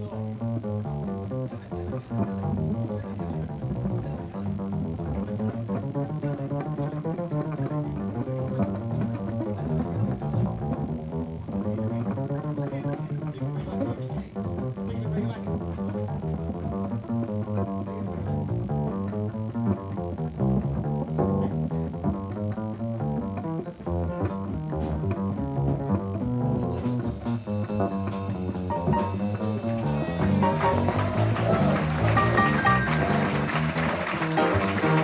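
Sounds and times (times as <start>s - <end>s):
double bass plucked pizzicato: 0.0s - 35.0s.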